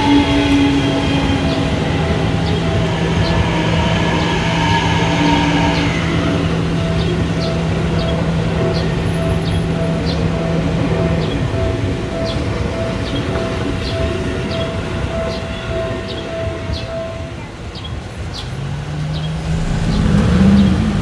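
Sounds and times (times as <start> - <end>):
level-crossing bell ringing: 0.0 - 17.7
train rolling past: 0.0 - 21.0.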